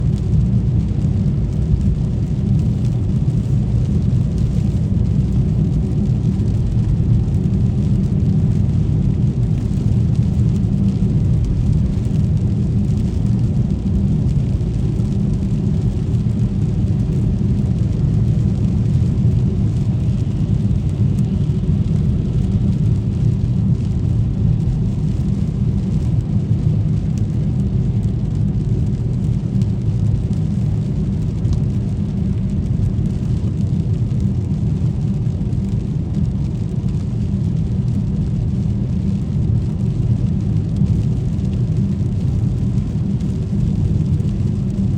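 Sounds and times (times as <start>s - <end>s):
car tyres rumbling on wet road: 0.0s - 44.9s.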